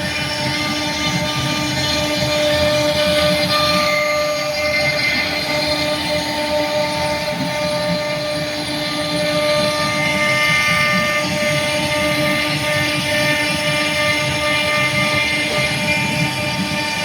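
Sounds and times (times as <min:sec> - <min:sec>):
cutter working through panel: 0:00.0 - 0:17.0
router spindle whine: 0:00.0 - 0:17.0.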